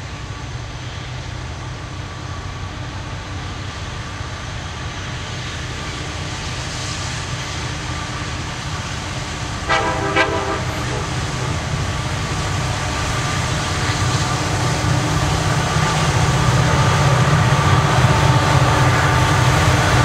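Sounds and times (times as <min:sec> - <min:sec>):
distant diesel locomotive rumble: 0:00.0 - 0:20.0.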